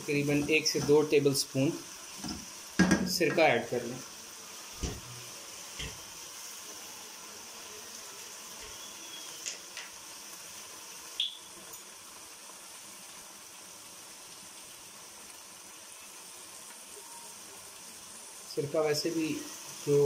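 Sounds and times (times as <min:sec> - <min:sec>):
meat sizzling in oil: 0:00.0 - 0:20.0.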